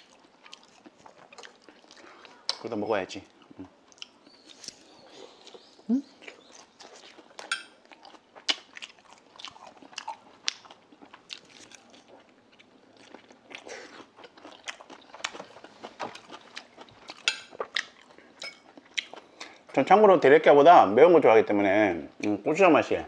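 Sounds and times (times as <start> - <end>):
food crunching: 0.0 - 19.7.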